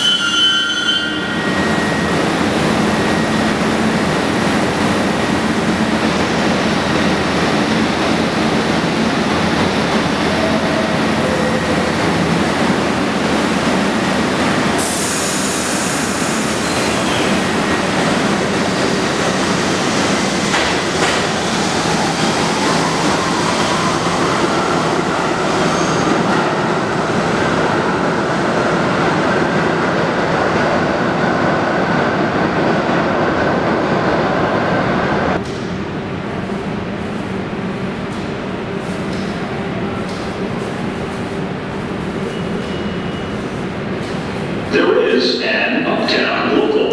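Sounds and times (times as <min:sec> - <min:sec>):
subway train rumbling on rails: 0:00.0 - 0:46.9.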